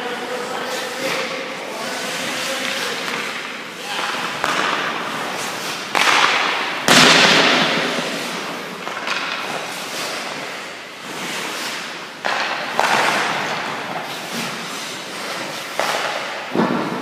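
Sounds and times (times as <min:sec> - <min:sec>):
skate blades scraping ice: 0:00.4 - 0:17.0.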